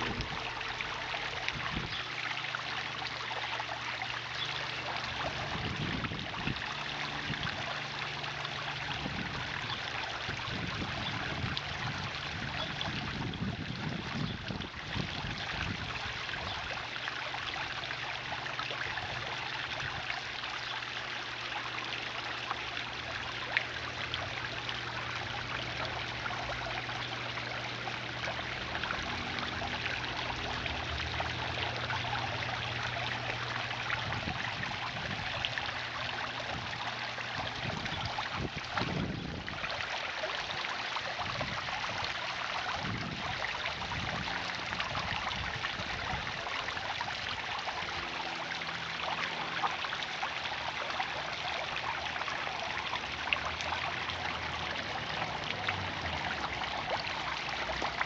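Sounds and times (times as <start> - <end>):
fountain spraying: 0.0 - 58.0
water trickling over stones: 0.0 - 58.0.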